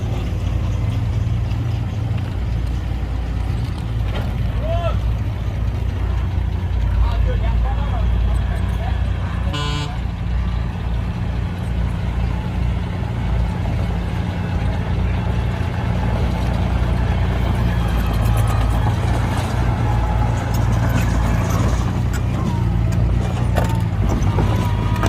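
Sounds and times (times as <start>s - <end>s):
heavy diesel engine droning: 0.0s - 25.0s.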